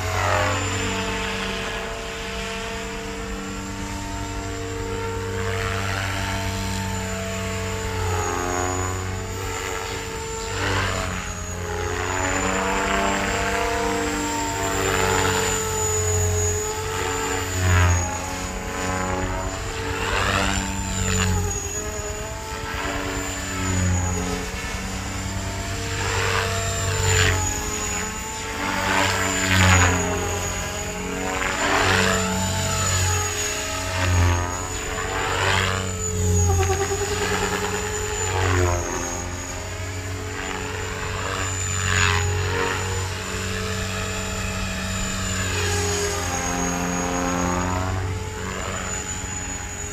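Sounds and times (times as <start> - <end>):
rc helicopter rotor and motor: 0.0 - 49.9
steady high whine: 0.0 - 49.9.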